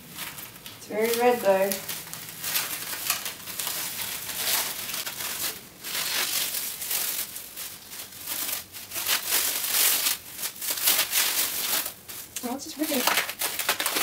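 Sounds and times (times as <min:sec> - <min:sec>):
cling film crinkling: 0:00.0 - 0:14.0.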